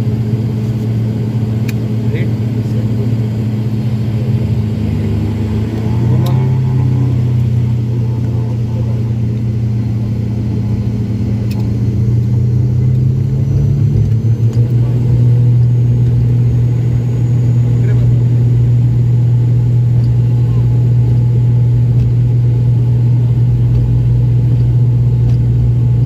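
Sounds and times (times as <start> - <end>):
turboprop engines droning: 0.0 - 26.0.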